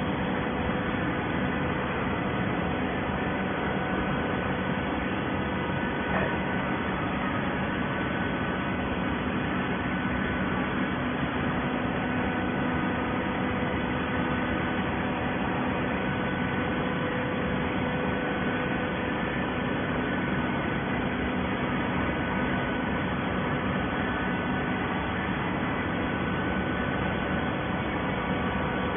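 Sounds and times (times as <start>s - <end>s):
hydraulic power unit humming: 0.0s - 28.9s.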